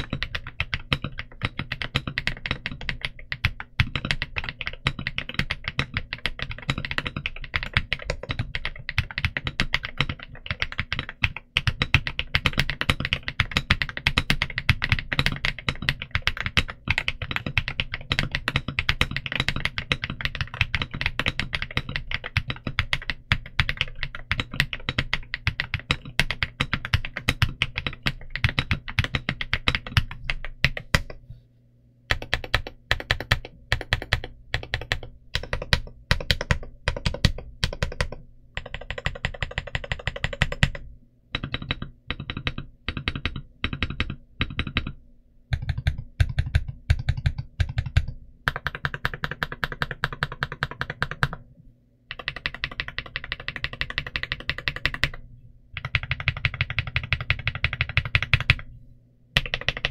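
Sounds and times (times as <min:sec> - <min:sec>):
fast mechanical keyboard typing: 0:00.0 - 0:31.2, 0:32.1 - 0:51.5, 0:52.1 - 0:55.2, 0:55.8 - 0:58.7, 0:59.4 - 0:59.9.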